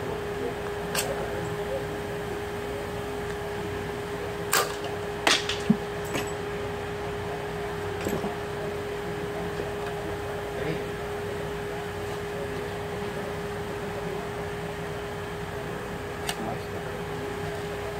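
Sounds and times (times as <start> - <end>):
steady hum: 0.0 - 17.9.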